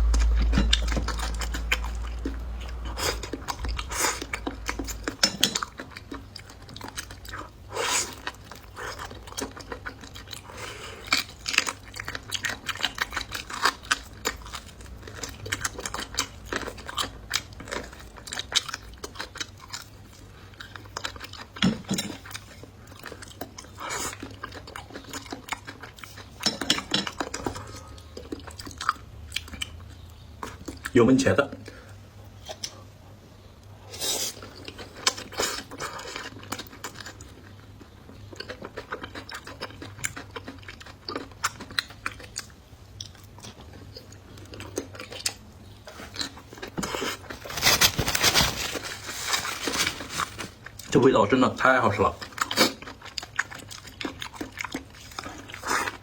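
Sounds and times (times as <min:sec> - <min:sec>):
person chewing food: 0:00.0 - 0:31.0, 0:31.6 - 0:50.9, 0:52.1 - 0:56.0.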